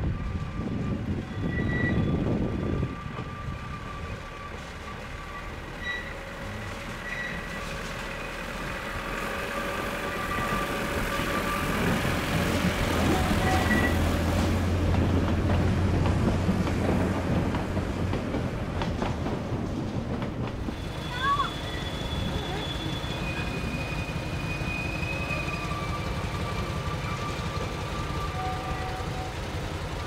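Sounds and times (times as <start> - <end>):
diesel locomotive engine: 0.0 - 30.0.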